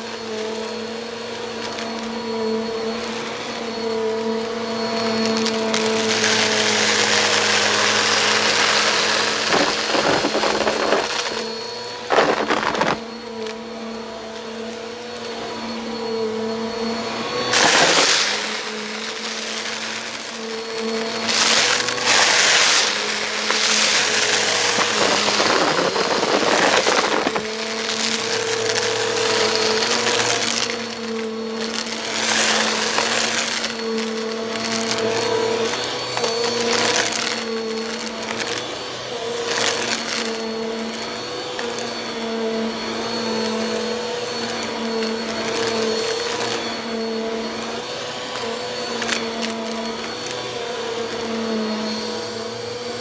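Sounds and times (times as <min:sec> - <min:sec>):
vacuum cleaner motor hum: 0:00.0 - 0:53.0.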